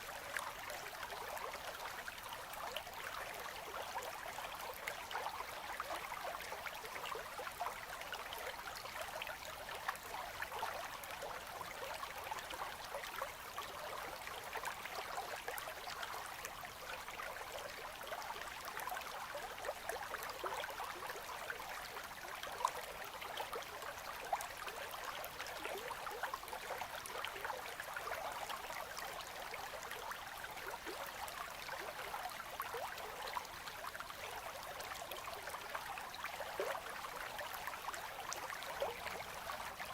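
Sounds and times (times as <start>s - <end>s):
river trickling and babbling: 0.0s - 39.9s.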